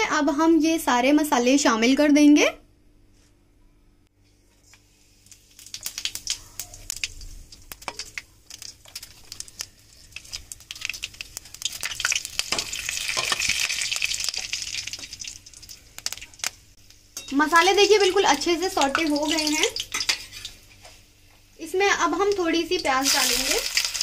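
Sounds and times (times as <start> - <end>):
spices sizzling in hot oil: 4.7 - 24.0.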